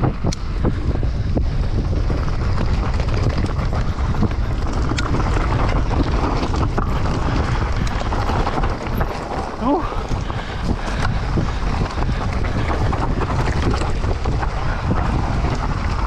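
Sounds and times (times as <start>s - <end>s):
bike tyres rattling on rough ground: 0.0s - 16.0s
wind buffeting microphone: 0.0s - 16.0s.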